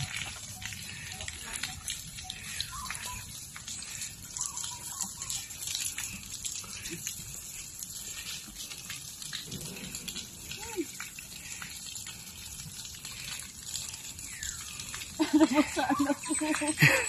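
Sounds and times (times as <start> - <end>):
water gushing and splashing: 0.0 - 17.0.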